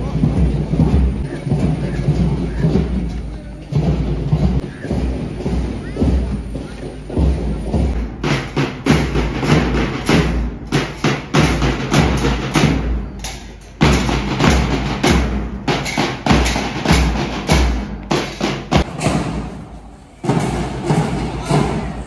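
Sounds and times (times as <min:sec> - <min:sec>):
marching snare and bass drums: 0:00.0 - 0:22.0.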